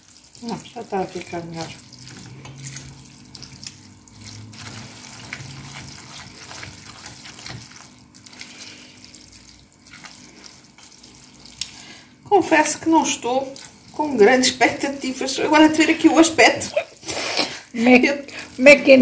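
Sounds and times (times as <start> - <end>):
spatula stirring pasta in metal pot: 0.0 - 19.0.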